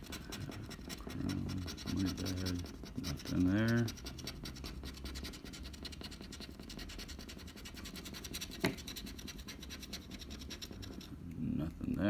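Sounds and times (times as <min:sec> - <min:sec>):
scratching a scratch-off ticket: 0:00.0 - 0:11.2.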